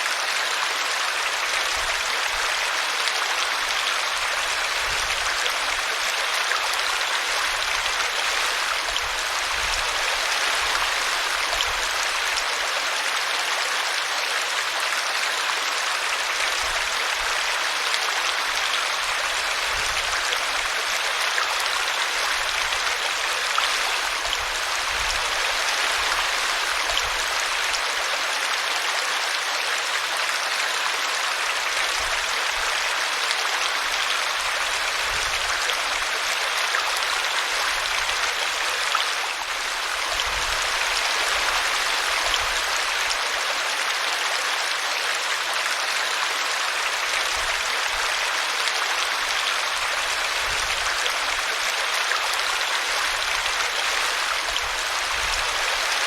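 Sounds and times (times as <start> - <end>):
brook water rushing and splashing: 0.0 - 56.0.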